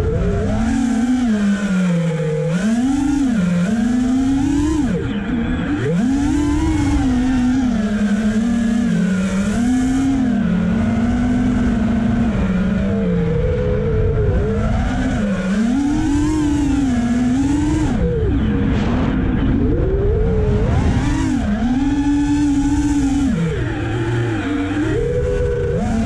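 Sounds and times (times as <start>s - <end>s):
quadcopter motors buzzing: 0.0s - 26.0s.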